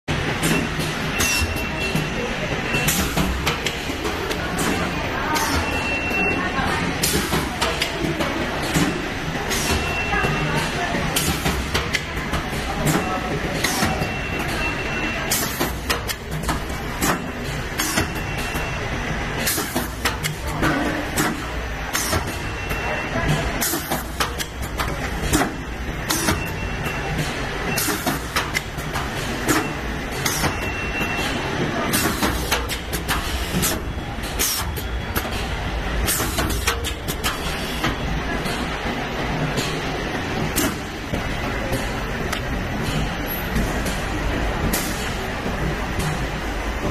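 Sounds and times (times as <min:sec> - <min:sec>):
packing machine hum: 0:00.1 - 0:46.9.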